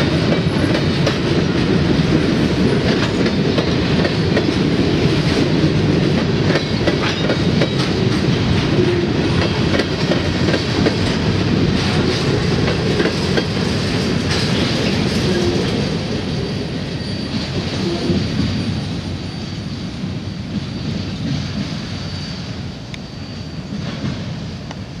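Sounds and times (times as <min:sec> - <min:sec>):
train wheels rumbling and clacking: 0:00.0 - 0:25.0.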